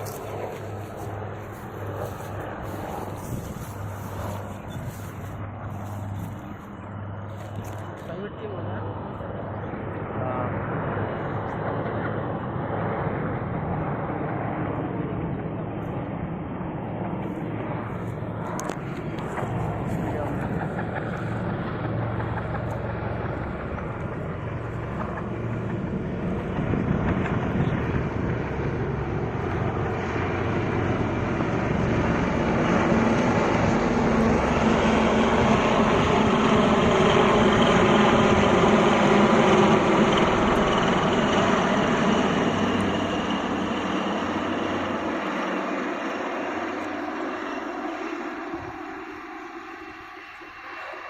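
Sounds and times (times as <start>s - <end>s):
helicopters flying past: 0.0s - 51.0s.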